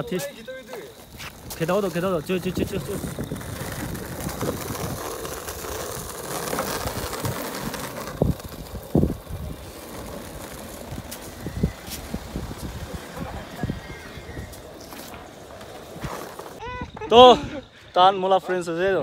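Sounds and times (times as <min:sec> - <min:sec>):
skateboard wheels rolling on asphalt: 0:00.0 - 0:19.0.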